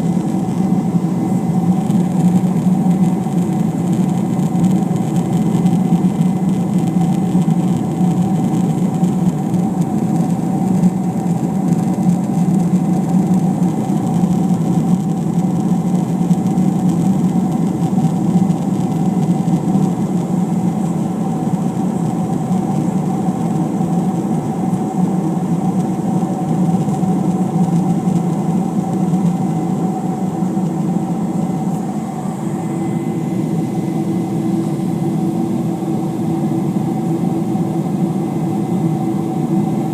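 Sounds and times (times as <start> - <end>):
jet engine cabin drone: 0.0 - 39.9.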